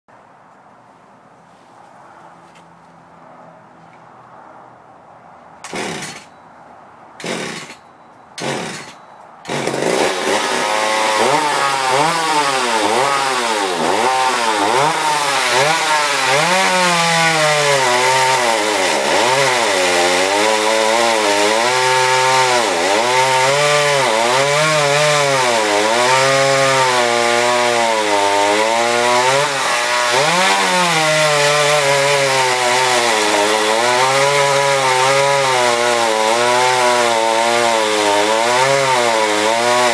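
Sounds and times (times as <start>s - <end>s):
chainsaw engine revving: 5.6s - 6.2s, 7.2s - 7.8s, 8.4s - 8.9s, 9.5s - 39.9s.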